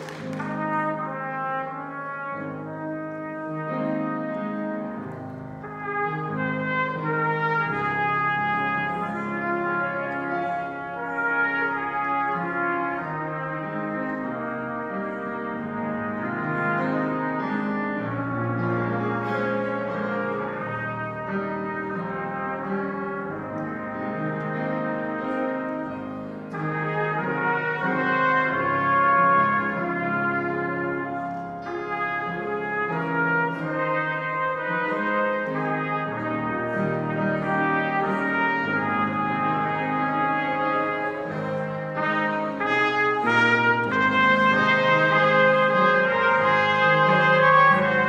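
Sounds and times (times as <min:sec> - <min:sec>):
piano accompaniment: 0:00.0 - 0:48.0
trumpet playing held notes: 0:00.0 - 0:48.0.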